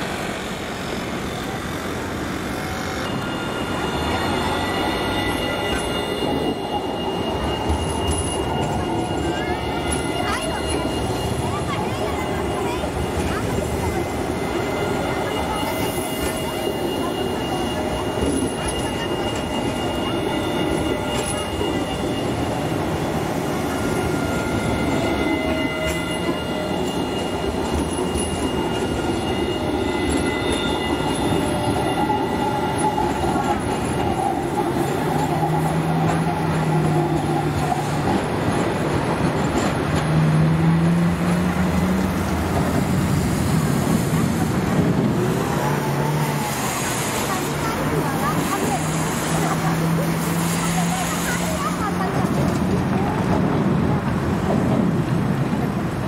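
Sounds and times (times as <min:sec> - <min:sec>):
tram wheel squeal and motor whine: 0:00.0 - 0:56.0.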